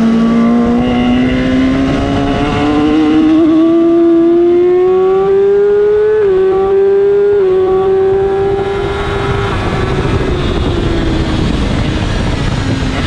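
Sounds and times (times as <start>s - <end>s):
motorcycle engine revving: 0.0s - 13.0s
wind rush: 0.0s - 13.0s.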